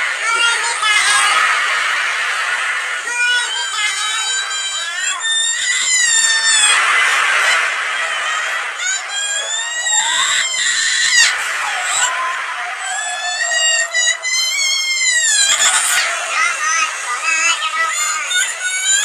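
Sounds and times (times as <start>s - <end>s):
cartoon character wailing: 0.2s - 1.6s, 3.1s - 19.0s.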